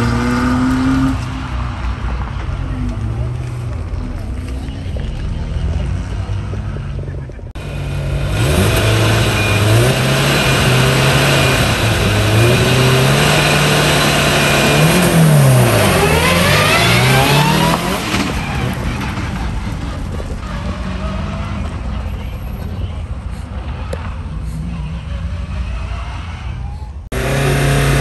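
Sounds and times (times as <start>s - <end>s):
car accelerating hard: 0.0s - 22.1s, 27.1s - 28.0s
rally car engine revving: 0.0s - 28.0s.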